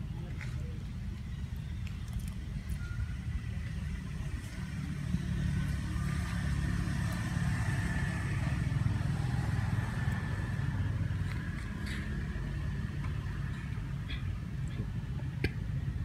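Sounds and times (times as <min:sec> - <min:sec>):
engine running: 0:00.8 - 0:16.0.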